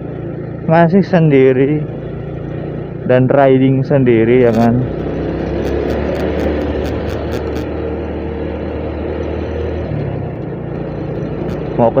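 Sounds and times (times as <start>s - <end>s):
motorcycle engine running: 0.0s - 9.2s, 9.8s - 12.0s.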